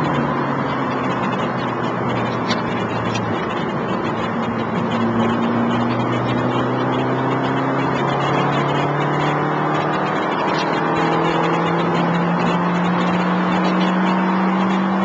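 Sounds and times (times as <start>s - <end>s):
car engine pulling: 0.0s - 15.0s.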